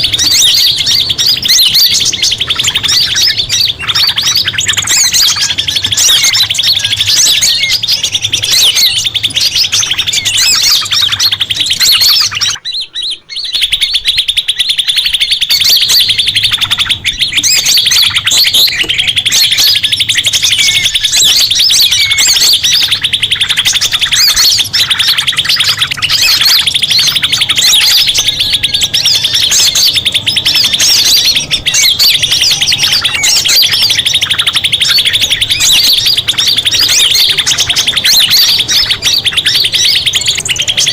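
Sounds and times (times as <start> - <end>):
songbird chirping trill: 0.0 - 40.9.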